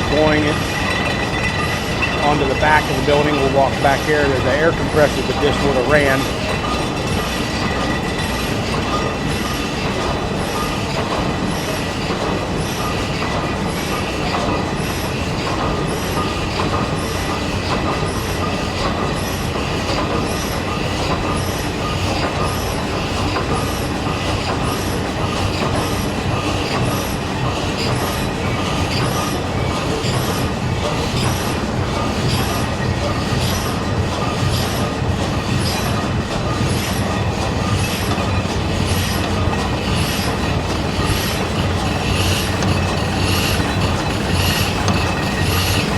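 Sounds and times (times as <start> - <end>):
large stationary engine clattering: 0.0 - 45.9.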